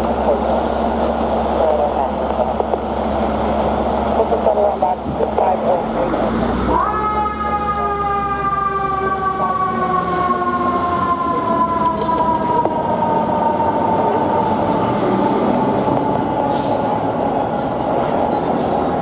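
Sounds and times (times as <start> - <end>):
moving truck rumble: 0.0 - 19.0.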